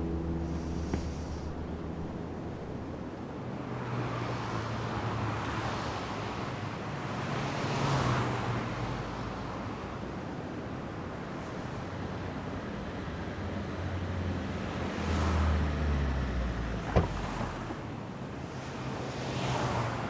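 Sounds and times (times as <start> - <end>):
street traffic hum: 0.0 - 20.0
vehicles passing: 0.0 - 20.0.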